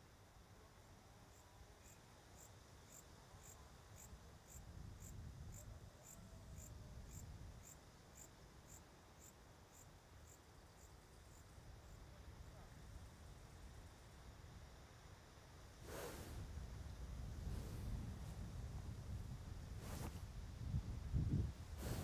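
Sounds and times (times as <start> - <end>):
cricket chirping: 0.0 - 21.8.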